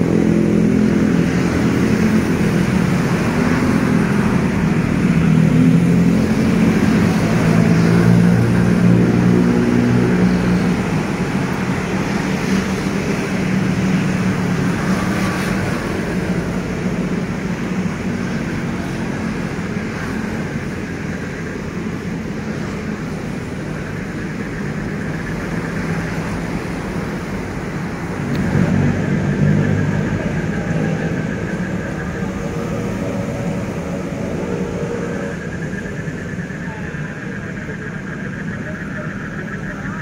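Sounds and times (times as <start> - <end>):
heavy vehicle engine hum: 0.0 - 40.0
road traffic noise: 0.0 - 40.0.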